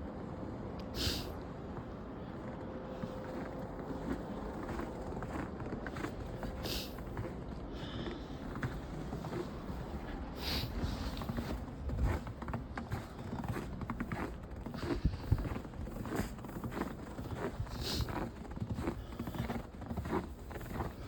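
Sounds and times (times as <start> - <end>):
footsteps crunching through snow: 2.9 - 21.0.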